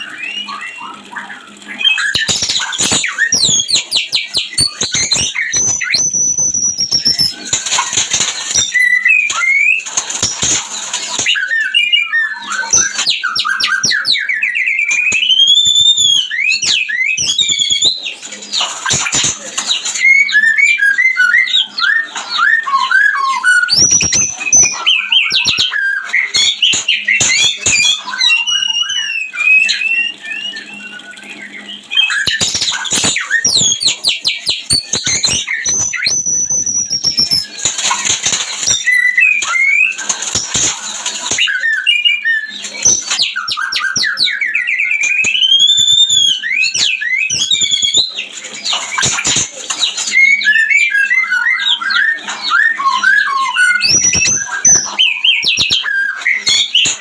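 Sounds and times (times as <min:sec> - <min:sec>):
bird song whistles and trills: 0:00.0 - 0:57.0
harsh clicking bird chatter: 0:00.0 - 0:57.0.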